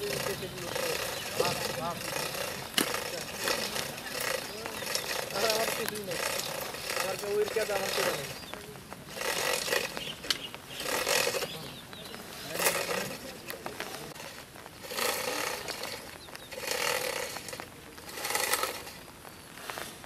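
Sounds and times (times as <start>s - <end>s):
hoes scraping wet soil: 0.0s - 20.0s.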